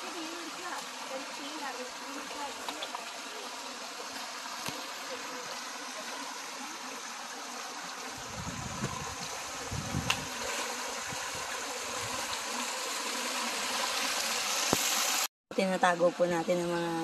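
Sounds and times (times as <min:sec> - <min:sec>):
creek water rushing over rocks: 0:00.0 - 0:15.3.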